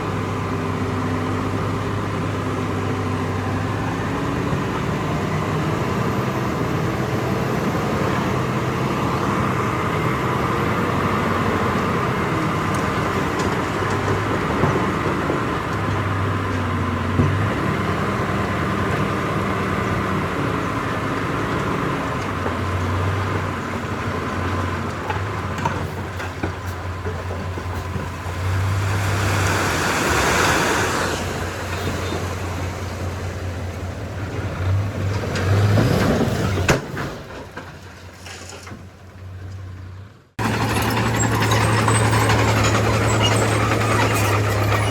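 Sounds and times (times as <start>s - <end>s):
diesel machinery engine drone: 0.0s - 37.4s, 39.1s - 44.9s.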